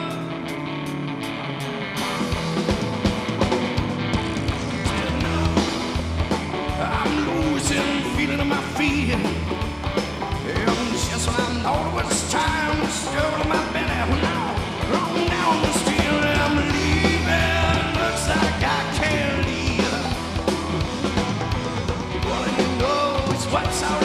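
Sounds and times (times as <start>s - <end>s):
bass guitar: 0.0s - 24.0s
drums: 0.0s - 24.0s
electric guitar: 0.0s - 24.0s.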